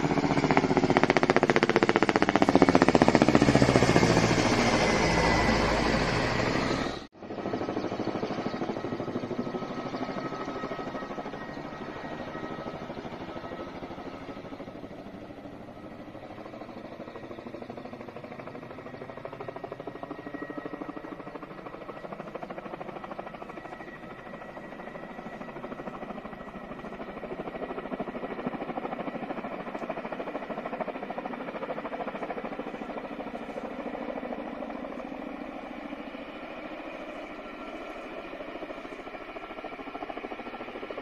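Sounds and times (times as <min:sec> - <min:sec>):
helicopter rotor chop: 0:00.0 - 0:41.0.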